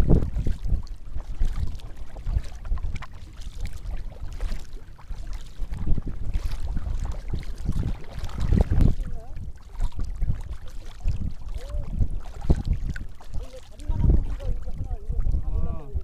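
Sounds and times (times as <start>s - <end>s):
water dripping from paddle: 0.0s - 15.4s
paddle splashing in water: 0.0s - 15.7s
wind noise on microphone: 0.0s - 16.0s.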